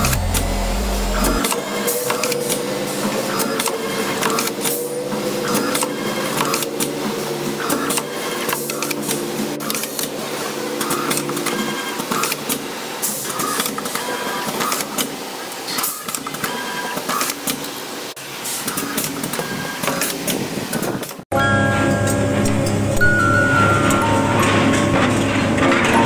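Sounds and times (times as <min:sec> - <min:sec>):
winding machine whirring and clatter: 0:00.0 - 0:21.2, 0:23.6 - 0:26.0.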